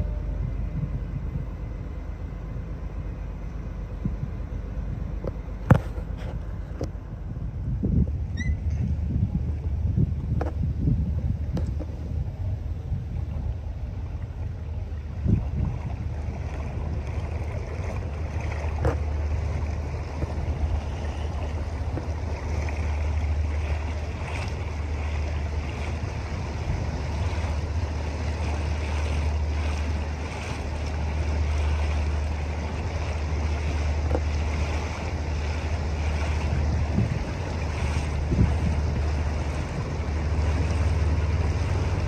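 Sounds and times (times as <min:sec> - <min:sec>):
low rumble: 0:00.0 - 0:42.0
moving water: 0:00.0 - 0:42.0
wind noise on microphone: 0:00.0 - 0:42.0.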